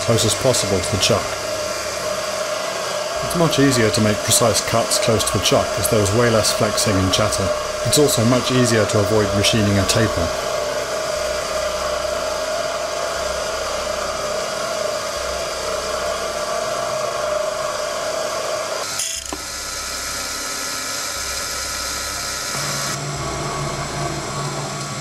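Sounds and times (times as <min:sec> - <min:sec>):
lathe motor running: 0:00.0 - 0:25.0.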